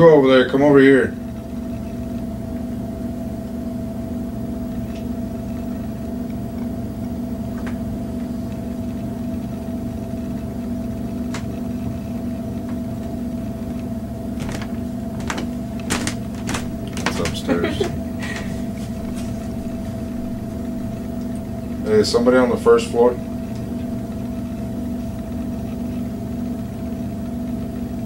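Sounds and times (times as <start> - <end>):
machinery hum: 0.0 - 28.0.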